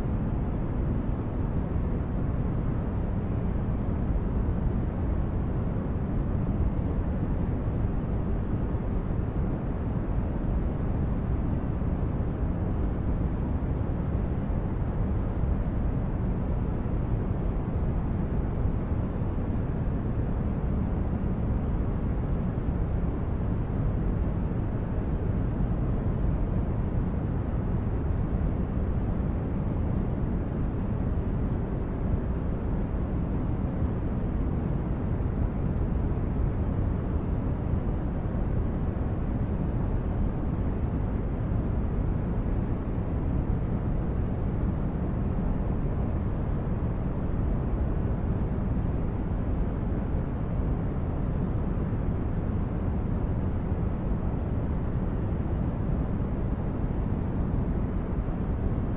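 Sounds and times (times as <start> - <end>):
low brown noise rumble: 0.0 - 58.9.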